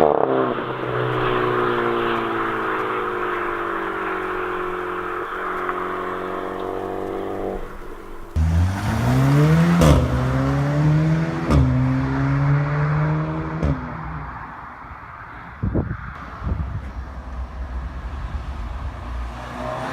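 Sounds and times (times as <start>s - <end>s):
car engine accelerating: 0.0s - 19.9s
exhaust cracks on upshifts: 0.0s - 19.9s.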